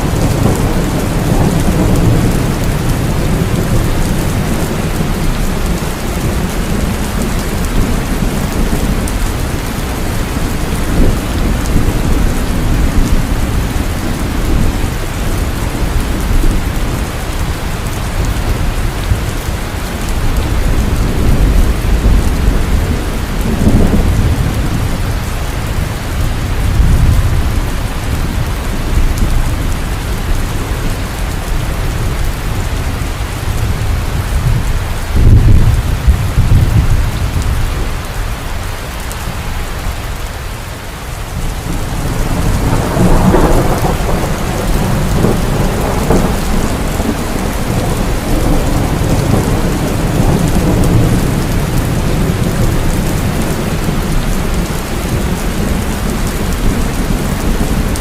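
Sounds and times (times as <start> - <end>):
deep thunder rumble: 0.0 - 38.4, 41.3 - 58.0
heavy rain falling: 0.0 - 58.0.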